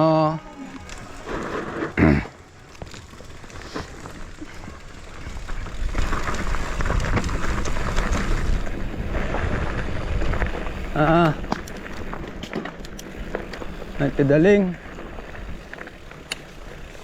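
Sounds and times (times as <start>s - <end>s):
bike rattling and clicking: 0.0s - 17.0s
bike tyres crunching over dirt: 0.0s - 17.0s
wind rumbling on microphone: 2.9s - 17.0s.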